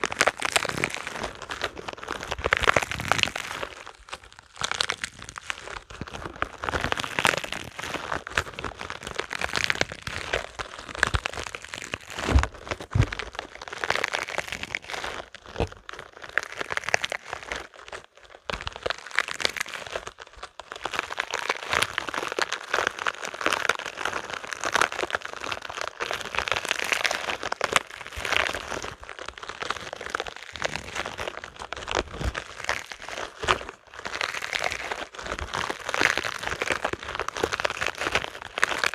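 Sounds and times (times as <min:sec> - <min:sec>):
rubber balls crackling and crinkling: 0:00.0 - 0:38.9.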